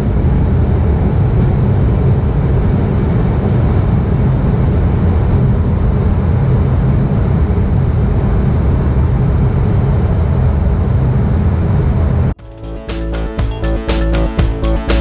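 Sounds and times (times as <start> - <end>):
turboprop engine and propeller: 0.0 - 12.4.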